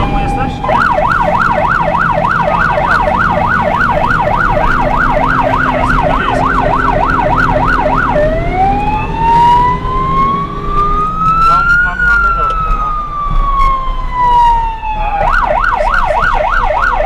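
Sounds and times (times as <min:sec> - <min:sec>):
emergency vehicle siren: 0:00.0 - 0:17.0.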